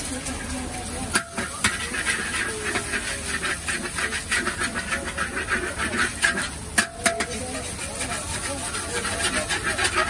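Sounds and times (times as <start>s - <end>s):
sizzling hiss: 0.0s - 10.0s
metal spatula scraping a wok: 0.2s - 10.0s
spatula knocking on wok: 1.1s - 10.0s.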